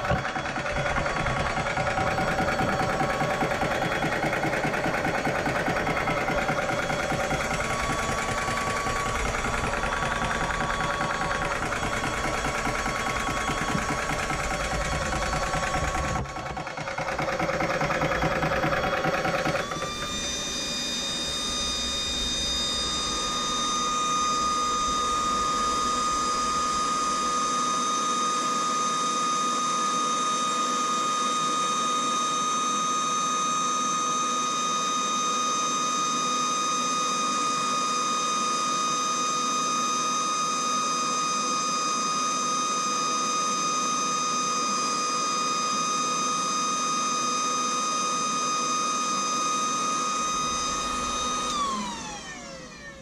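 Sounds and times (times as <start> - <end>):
air compressor running: 0.0 - 53.0.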